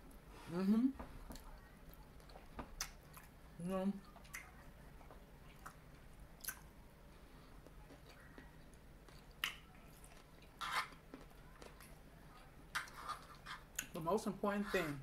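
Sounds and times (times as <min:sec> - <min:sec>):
quiet chewing: 0:01.0 - 0:03.4, 0:04.0 - 0:14.0.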